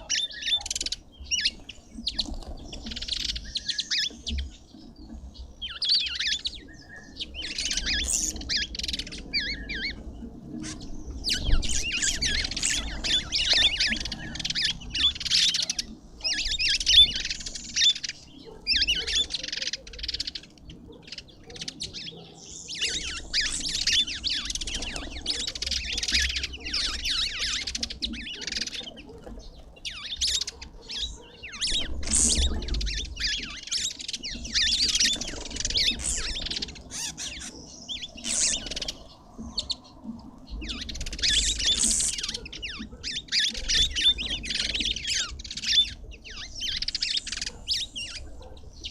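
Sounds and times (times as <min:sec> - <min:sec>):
birds chattering and twittering: 0:00.0 - 0:48.9.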